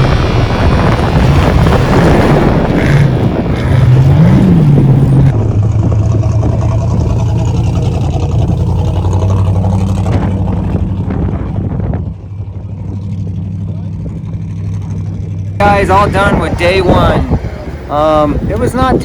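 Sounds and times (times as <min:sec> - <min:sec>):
race truck engine revving: 0:00.0 - 0:19.0
steady engine drone: 0:00.0 - 0:19.0.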